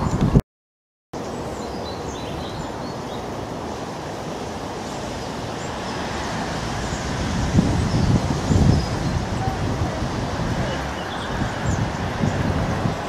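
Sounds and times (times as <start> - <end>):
wind gusts on microphone: 0.0 - 0.4, 1.2 - 13.0
outdoor background rumble: 1.2 - 13.0.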